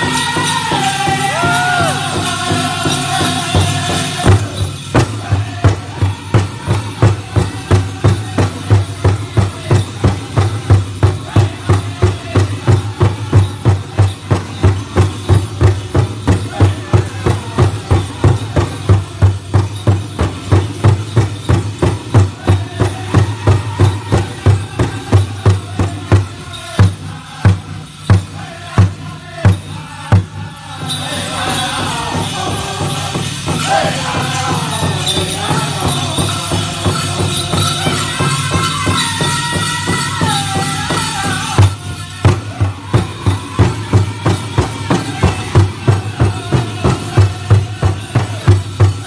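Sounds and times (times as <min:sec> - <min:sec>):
drum beaten in unison: 0:00.0 - 0:49.0
men singing: 0:00.0 - 0:49.0.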